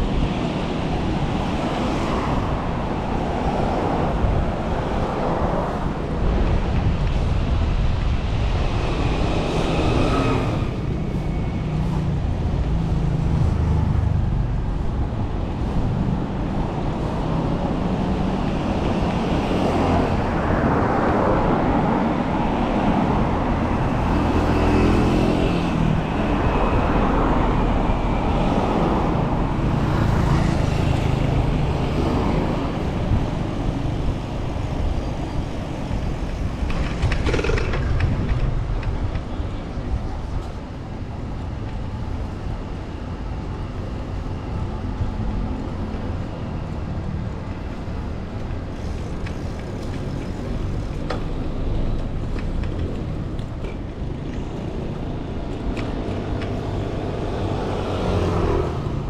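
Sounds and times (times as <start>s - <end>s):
cars passing on street: 0.0s - 59.0s.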